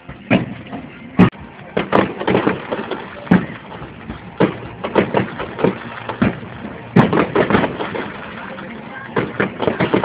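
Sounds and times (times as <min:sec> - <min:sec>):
fireworks bangs: 0:00.1 - 0:10.0.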